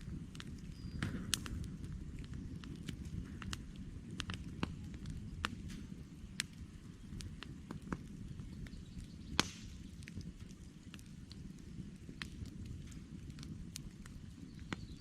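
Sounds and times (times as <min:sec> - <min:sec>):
campfire crackling: 0:00.0 - 0:15.0
low steady rumble: 0:00.0 - 0:15.0.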